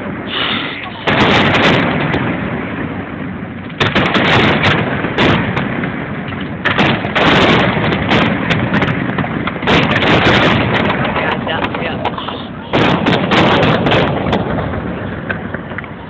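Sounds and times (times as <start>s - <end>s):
firework shells bursting: 0.0s - 16.0s
fireworks crackling: 0.0s - 16.0s
rumbling echoes: 0.0s - 16.0s.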